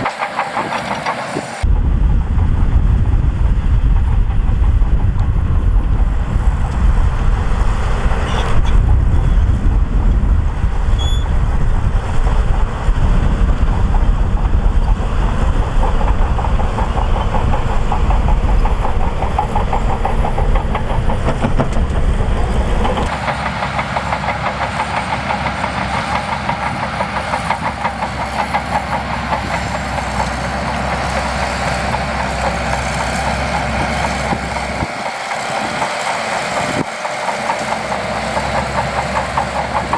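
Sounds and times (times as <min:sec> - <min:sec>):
bulldozer diesel engine: 0:00.0 - 0:39.9
steel tracks clanking: 0:00.0 - 0:39.9.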